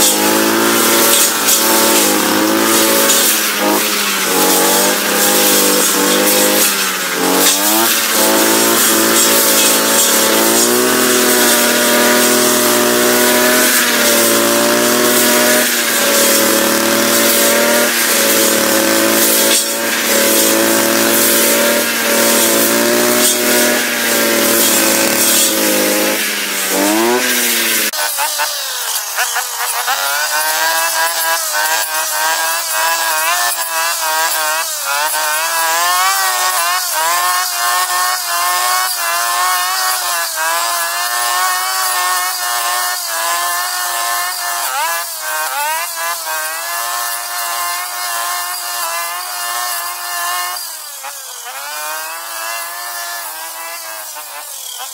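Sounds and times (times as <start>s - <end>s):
brush cutter engine running: 0.0s - 54.9s.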